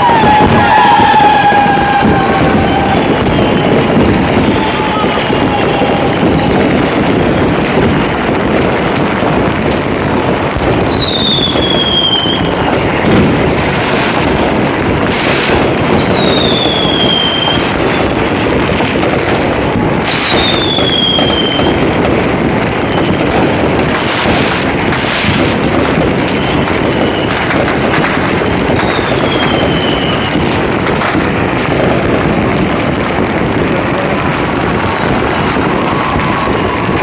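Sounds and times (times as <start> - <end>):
firecracker crackle and bangs: 0.0 - 37.0
loud firework bursts: 0.0 - 37.0
whistling rocket: 0.0 - 37.0.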